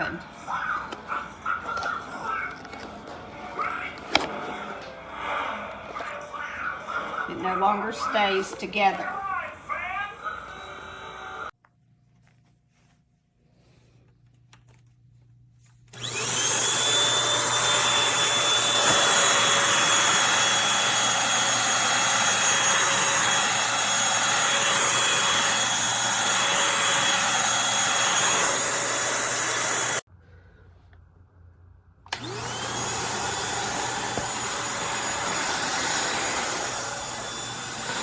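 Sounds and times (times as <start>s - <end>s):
stick vacuum motor whine: 0.0s - 11.5s, 15.9s - 30.1s, 32.1s - 38.0s.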